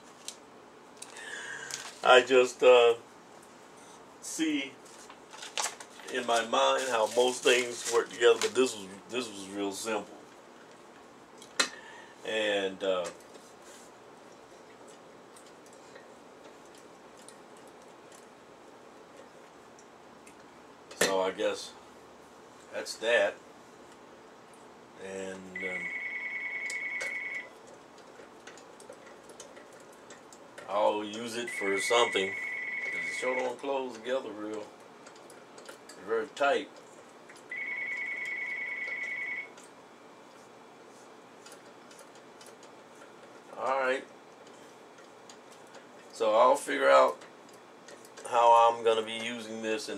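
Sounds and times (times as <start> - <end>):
low room noise: 0.0 - 49.9.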